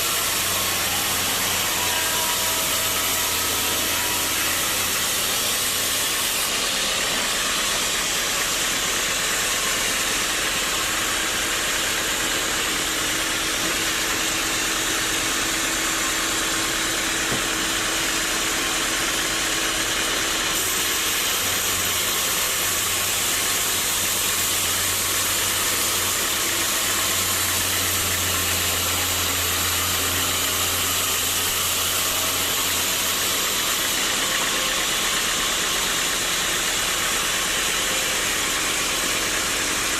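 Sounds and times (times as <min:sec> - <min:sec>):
sawmill saw machinery running: 0:00.0 - 0:39.9.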